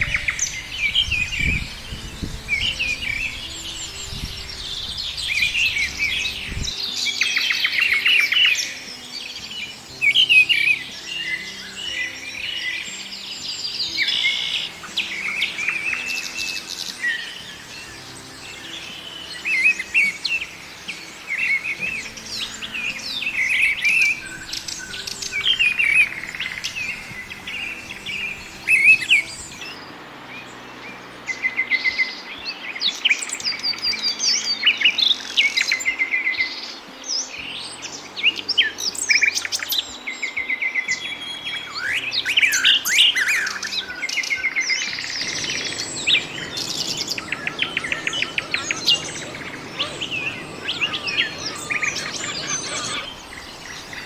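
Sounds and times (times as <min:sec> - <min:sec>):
small birds chirping and singing: 0:00.0 - 0:54.0.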